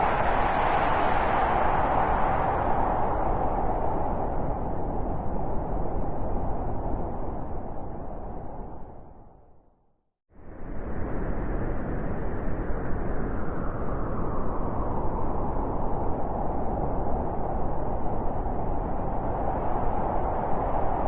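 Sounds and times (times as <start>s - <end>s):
howling blizzard wind: 0.0s - 9.6s, 10.4s - 21.0s.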